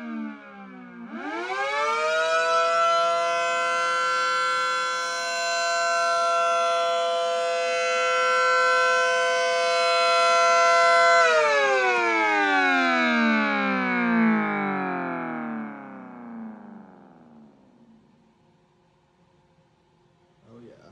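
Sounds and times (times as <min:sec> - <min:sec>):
siren winding up and down: 0:00.0 - 0:17.8.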